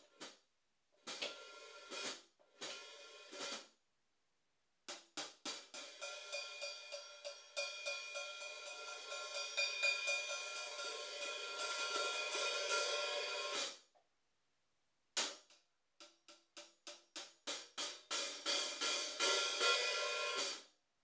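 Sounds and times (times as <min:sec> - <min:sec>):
hi-hats struck with drumsticks: 0:01.1 - 0:03.6, 0:04.9 - 0:13.8, 0:15.2 - 0:20.6.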